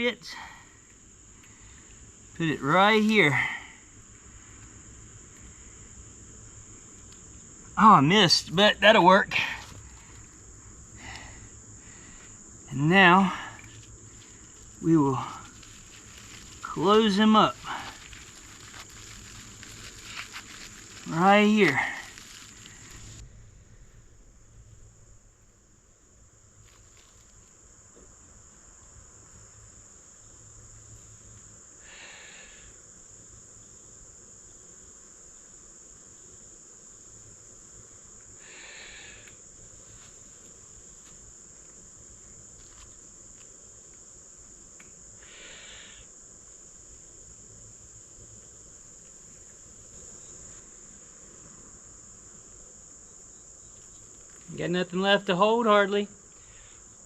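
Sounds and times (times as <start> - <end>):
crickets chirring: 0.0 - 57.0.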